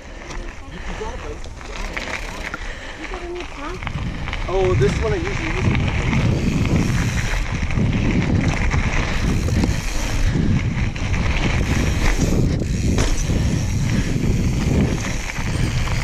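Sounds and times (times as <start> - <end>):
bike rattling on dirt trail: 0.0 - 16.0
wind buffeting microphone: 0.1 - 16.0.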